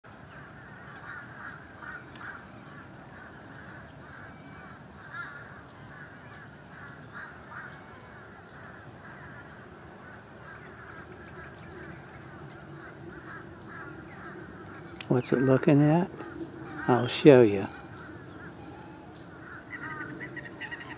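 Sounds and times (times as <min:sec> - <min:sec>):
chorus of animal calls: 0:00.2 - 0:20.9.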